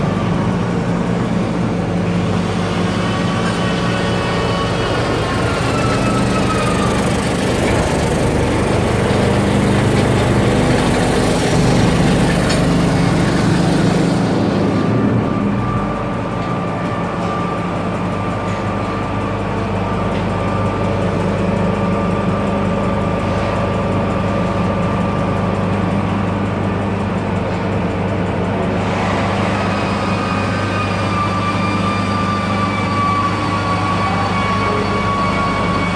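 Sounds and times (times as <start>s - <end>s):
machine humming: 0.0s - 35.9s.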